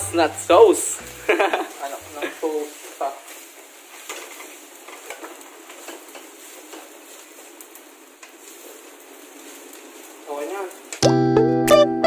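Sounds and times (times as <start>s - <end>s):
frying hiss: 0.0s - 12.0s.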